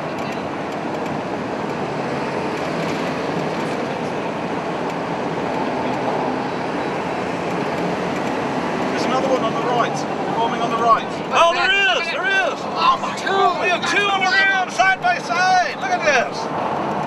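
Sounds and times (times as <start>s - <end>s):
road and engine noise: 0.0s - 17.0s.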